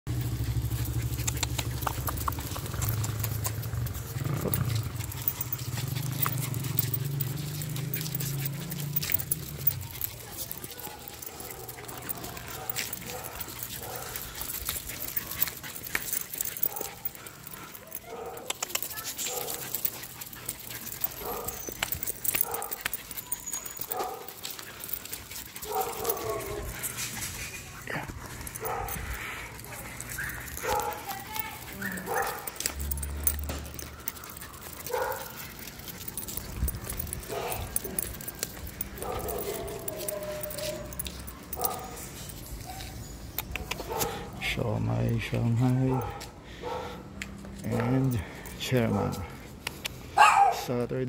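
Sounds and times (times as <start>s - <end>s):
dog claws and leash clips clicking: 0.1s - 50.2s.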